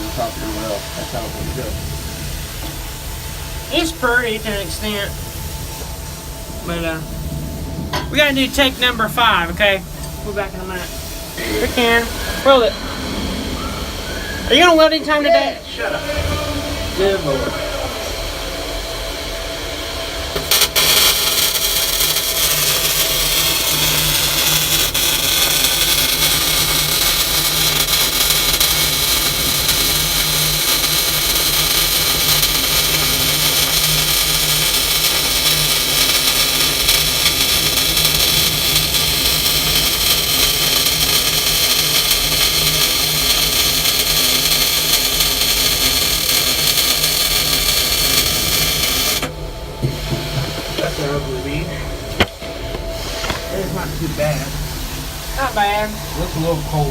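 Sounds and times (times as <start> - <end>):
welding arc running: 0.0 - 56.9.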